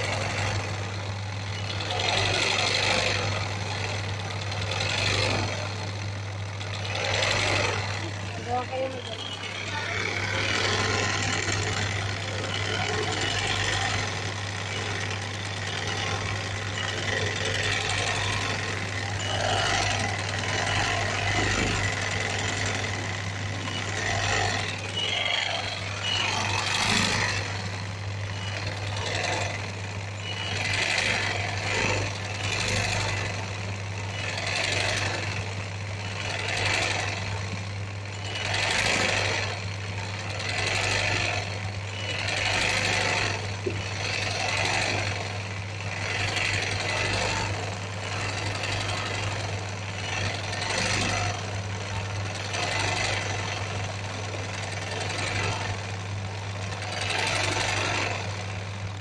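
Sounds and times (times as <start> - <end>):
sewing machine needle rattle: 0.0 - 59.0.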